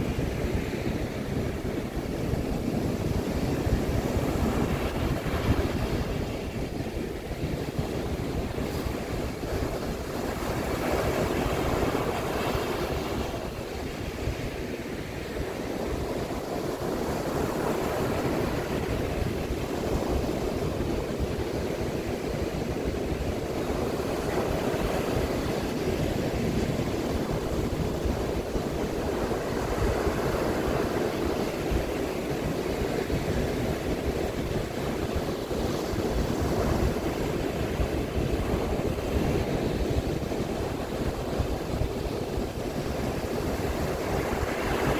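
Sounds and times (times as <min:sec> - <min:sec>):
waves breaking on beach: 0:00.0 - 0:44.9.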